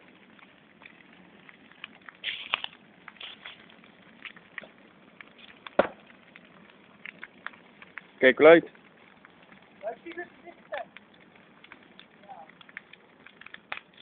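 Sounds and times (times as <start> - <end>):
fire crackling: 0.0 - 14.0
sharp pops: 0.8 - 14.0.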